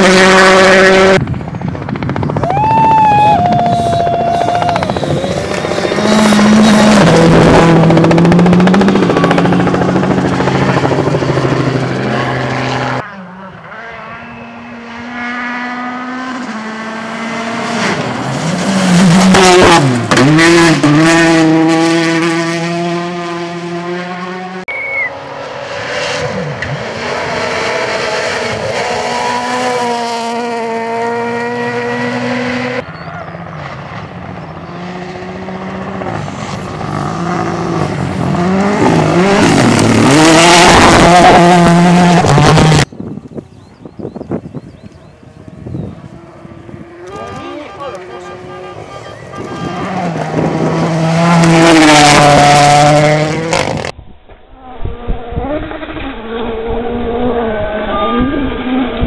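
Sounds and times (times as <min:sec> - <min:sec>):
rally car engines revving: 0:00.0 - 0:01.3, 0:03.0 - 0:54.0, 0:54.7 - 0:59.0.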